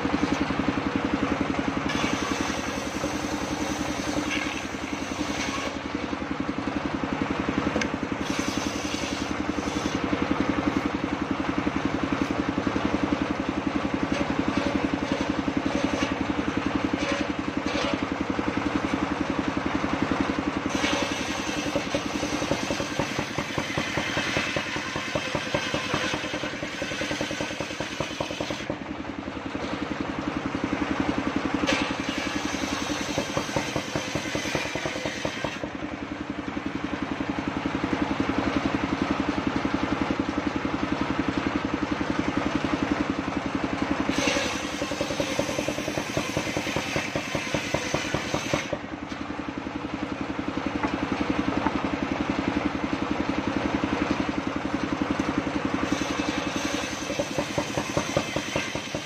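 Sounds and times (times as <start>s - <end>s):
circular saw cutting log: 0.0s - 37.3s, 43.8s - 49.2s, 50.1s - 59.0s
sawmill engine running: 0.0s - 59.0s.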